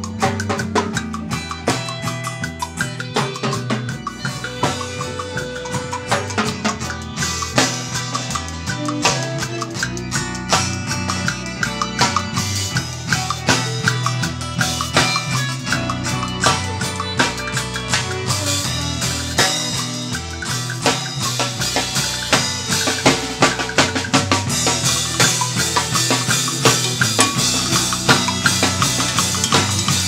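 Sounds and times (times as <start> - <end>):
drum kit with cymbals: 0.0 - 30.0
electric guitars: 0.0 - 30.0.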